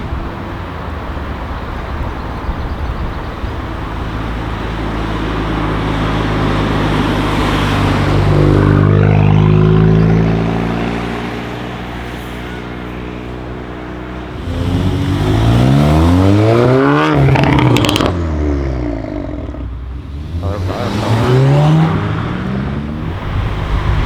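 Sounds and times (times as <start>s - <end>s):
car engine and exhaust: 0.0s - 24.0s
traffic rumble: 0.0s - 24.0s.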